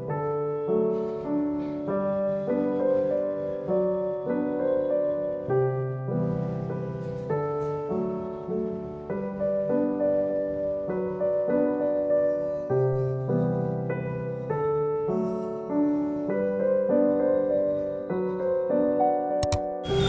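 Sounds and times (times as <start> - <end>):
soft piano music: 0.0 - 20.0.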